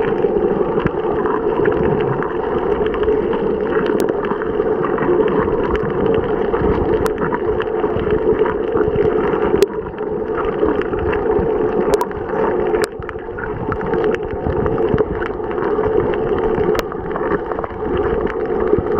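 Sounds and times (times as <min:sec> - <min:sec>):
underwater water rush: 0:00.0 - 0:18.9.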